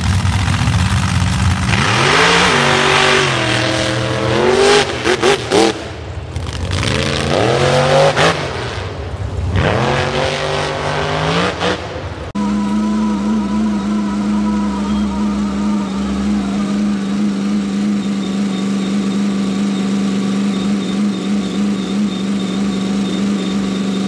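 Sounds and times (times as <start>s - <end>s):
truck engine revving hard: 0.0s - 24.0s.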